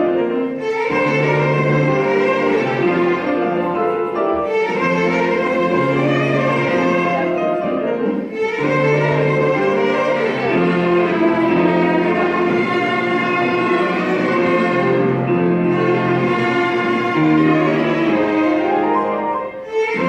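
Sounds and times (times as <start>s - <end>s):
piano accompaniment: 0.0s - 20.0s
violin ensemble melody: 0.0s - 20.0s.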